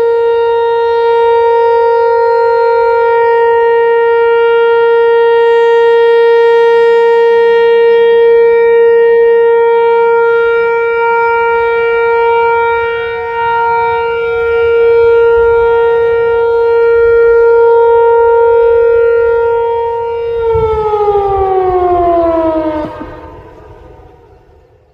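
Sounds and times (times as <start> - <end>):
tornado siren steady tone: 0.0 - 24.9.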